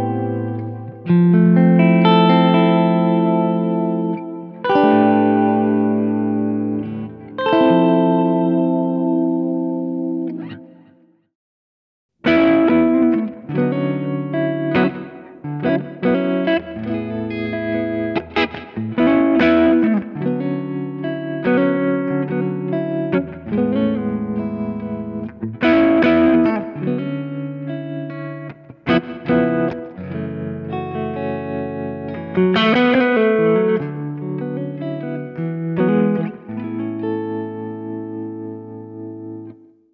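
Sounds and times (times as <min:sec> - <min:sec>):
electric guitar chords and notes: 0:00.0 - 0:11.1, 0:12.2 - 0:39.9.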